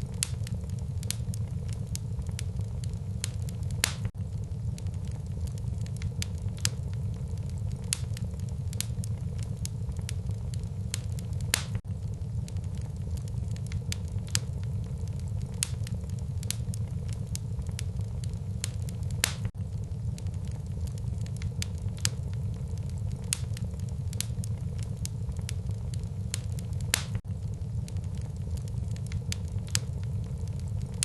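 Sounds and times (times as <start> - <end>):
fire crackling and popping: 0.0 - 31.0
flames rumbling: 0.0 - 31.0.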